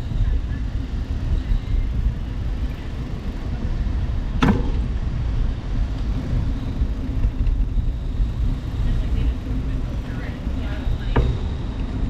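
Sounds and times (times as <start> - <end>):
wind and tyre rumble: 0.0 - 12.0.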